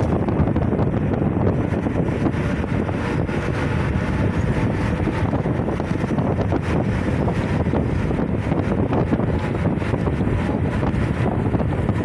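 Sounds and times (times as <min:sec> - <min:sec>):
vehicle running with road noise: 0:00.0 - 0:12.0
wind over microphone: 0:00.0 - 0:12.0.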